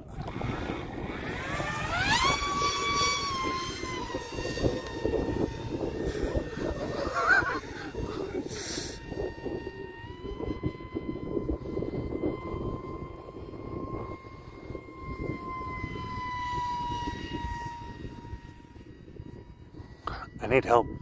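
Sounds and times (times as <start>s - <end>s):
model airplane motor whine: 0.0s - 21.0s
wind rumble on microphone: 0.0s - 21.0s.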